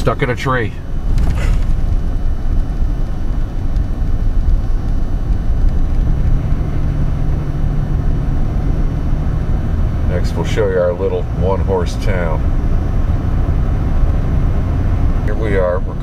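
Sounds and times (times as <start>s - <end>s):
steady low hum: 0.0s - 16.0s
vehicle engine and tyre rumble: 0.0s - 16.0s.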